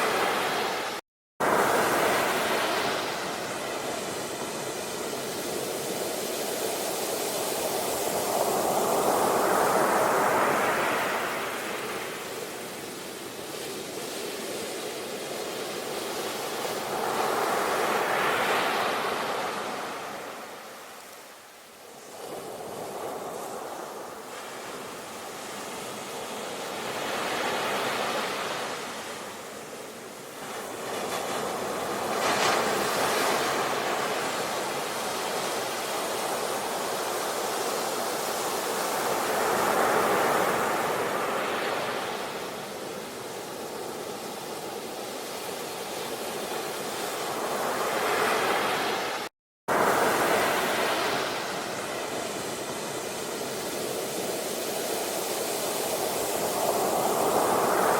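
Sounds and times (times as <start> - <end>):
sea waves washing onto shore: 0.0 - 57.9.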